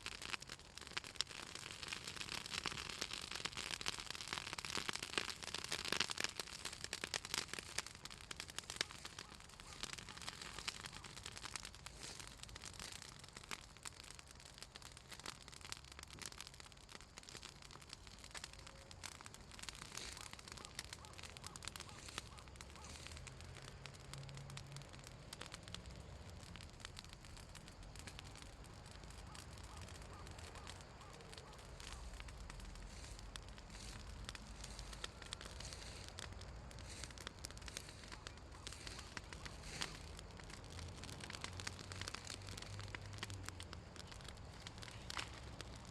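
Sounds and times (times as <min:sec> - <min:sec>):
branches crackling in a fire: 0:00.0 - 0:45.9.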